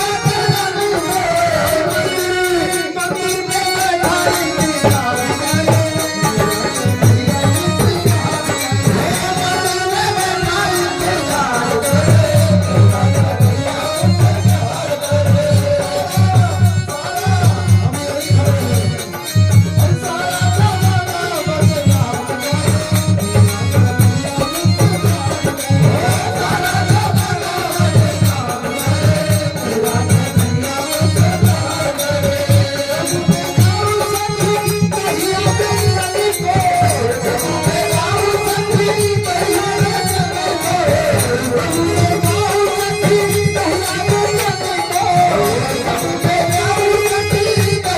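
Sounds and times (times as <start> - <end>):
rattling percussion: 0.0 - 47.9.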